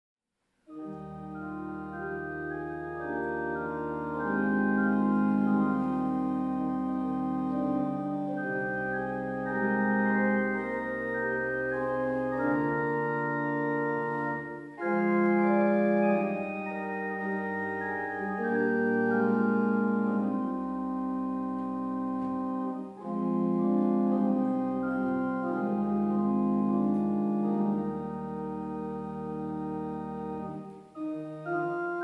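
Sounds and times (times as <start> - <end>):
organ playing held chords: 0.6 - 32.0.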